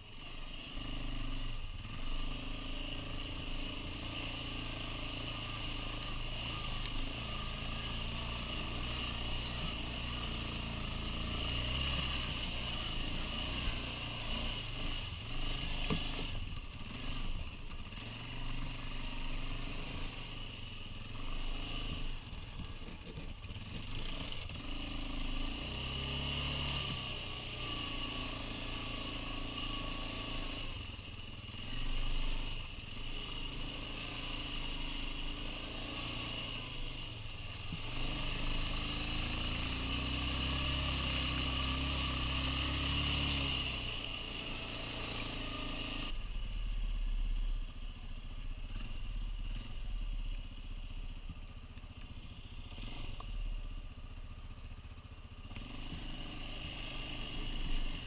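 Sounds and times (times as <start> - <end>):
quad bike engine revving: 0.0 - 47.5, 48.6 - 50.6, 51.9 - 53.8, 55.4 - 58.0.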